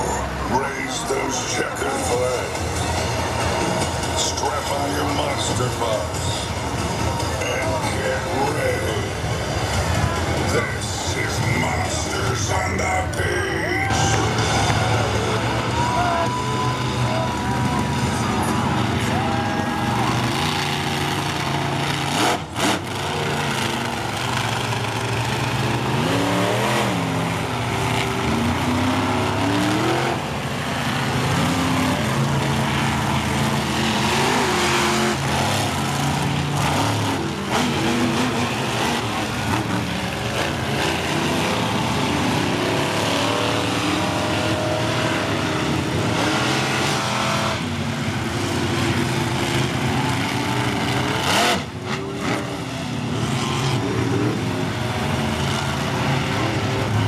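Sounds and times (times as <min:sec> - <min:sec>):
monster truck engines revving: 0:00.0 - 0:57.0.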